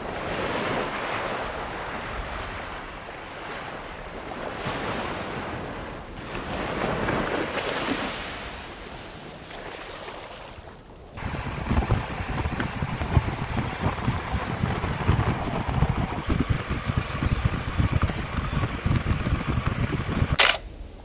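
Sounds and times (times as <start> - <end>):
ocean waves washing in: 0.0 - 21.0.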